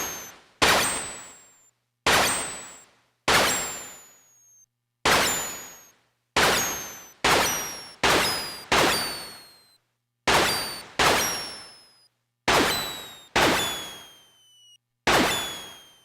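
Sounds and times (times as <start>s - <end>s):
thin falling whistle: 0.0s - 16.0s.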